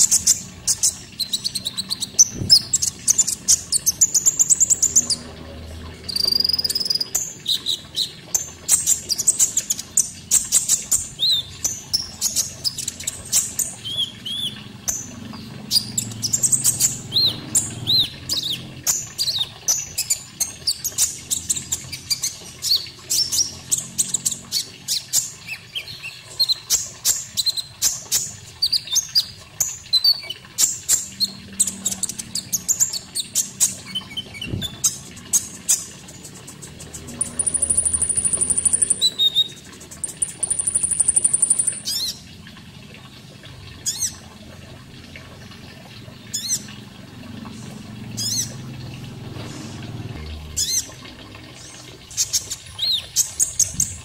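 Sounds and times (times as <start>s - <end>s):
faint running water: 0.0s - 54.0s.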